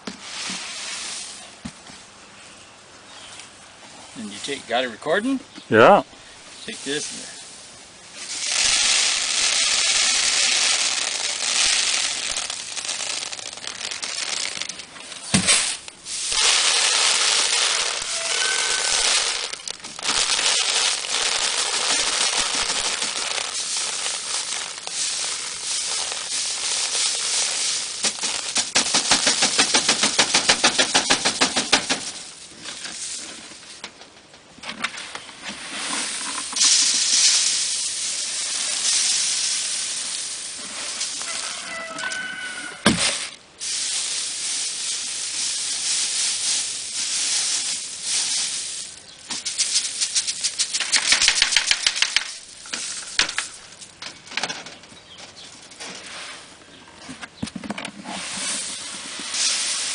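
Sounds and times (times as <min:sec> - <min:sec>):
grain rustling in a sieve: 0:00.0 - 0:01.6, 0:06.5 - 0:33.8, 0:34.9 - 0:54.2, 0:55.0 - 0:56.8, 0:57.8 - 0:59.9.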